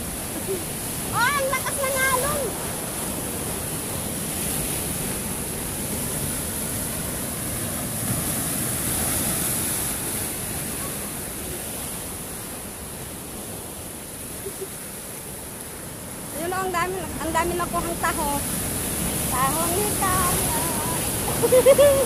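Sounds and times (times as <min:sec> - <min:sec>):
surf breaking against rocks: 0:00.0 - 0:22.0.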